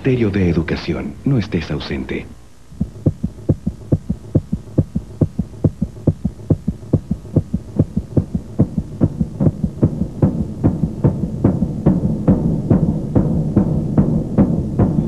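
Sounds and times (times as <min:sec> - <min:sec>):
heartbeat thumps: 0:02.7 - 0:15.0.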